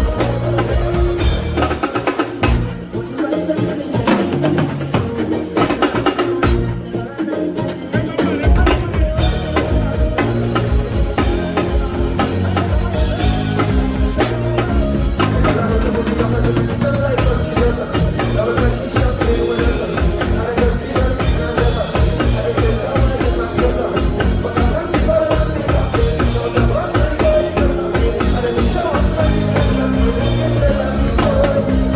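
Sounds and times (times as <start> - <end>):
sustained bass notes: 0.0 - 7.1, 8.2 - 31.9
drum kit beat: 0.0 - 31.9.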